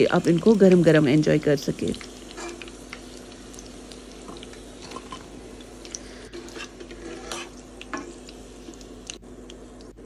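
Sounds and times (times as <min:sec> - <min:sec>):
food frying in oil: 0:00.0 - 0:10.0.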